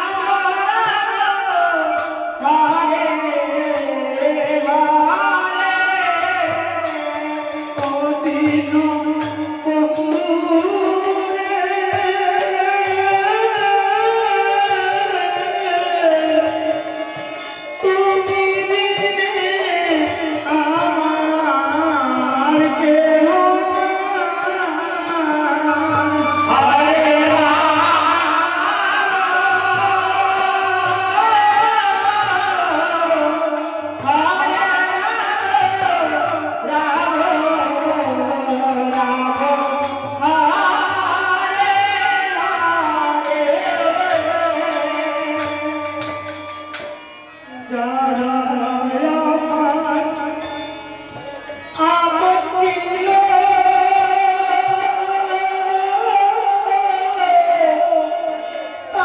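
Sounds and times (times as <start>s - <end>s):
hand drums: 0.0s - 59.0s
harmonium: 0.0s - 59.0s
violin: 0.0s - 59.0s
voices singing devotional melody: 0.0s - 59.0s.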